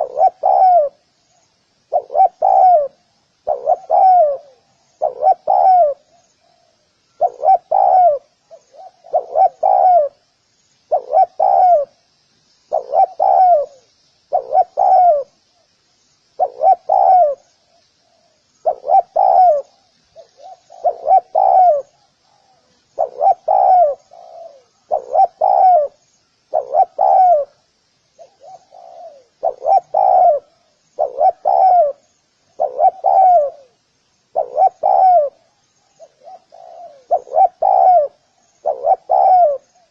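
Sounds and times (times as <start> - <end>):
dove cooing: 0.0 - 1.1, 1.8 - 10.3, 10.9 - 12.0, 12.7 - 15.4, 16.4 - 27.6, 28.2 - 39.9
faint high twittering: 0.0 - 39.9.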